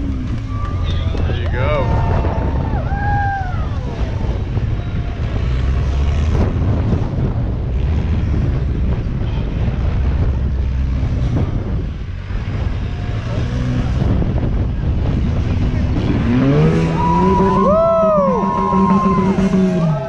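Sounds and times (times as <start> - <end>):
buggy engine running under load: 0.0 - 20.0
wind buffeting microphone: 0.0 - 20.0.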